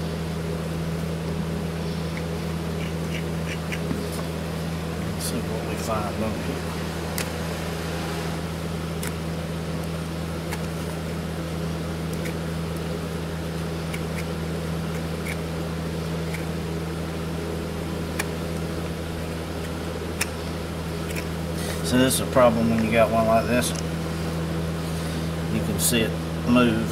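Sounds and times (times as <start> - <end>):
low machine hum: 0.0 - 26.9.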